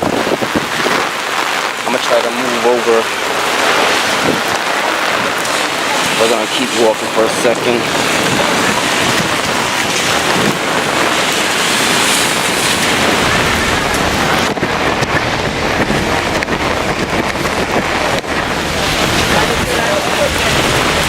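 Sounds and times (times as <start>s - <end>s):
gusty wind buffeting microphone: 0.0s - 21.0s
heavy rain: 0.0s - 21.0s.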